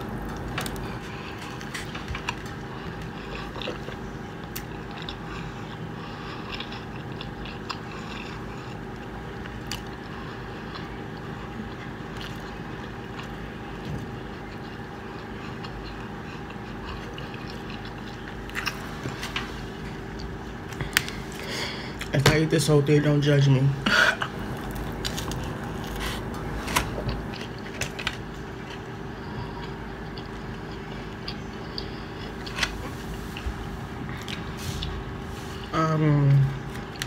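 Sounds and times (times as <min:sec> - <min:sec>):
person chewing food: 0:00.0 - 0:22.1, 0:23.9 - 0:35.7, 0:36.3 - 0:37.0
steady low hum: 0:00.0 - 0:37.0.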